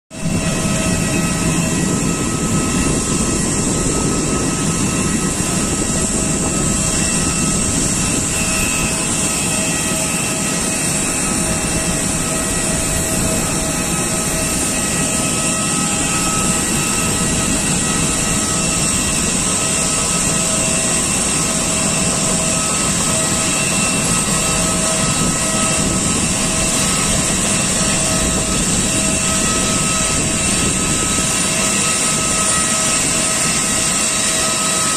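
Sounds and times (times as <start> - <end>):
jet turbine whine: 0.1 - 34.9.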